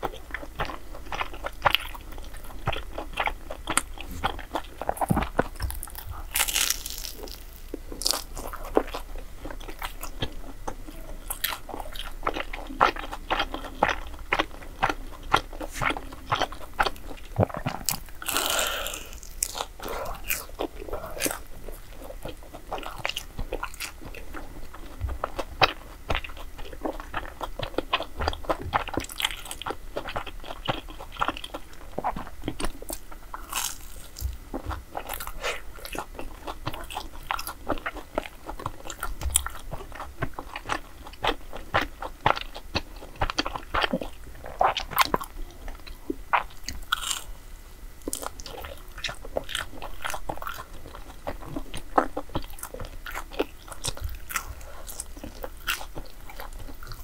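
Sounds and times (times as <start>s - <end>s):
crunchy bites: 0.1s - 47.4s.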